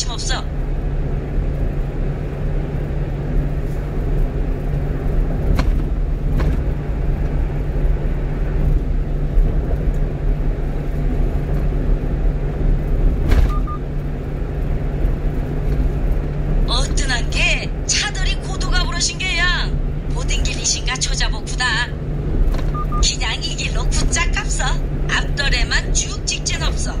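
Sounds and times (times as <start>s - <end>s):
truck engine and tyre drone: 0.0s - 27.0s.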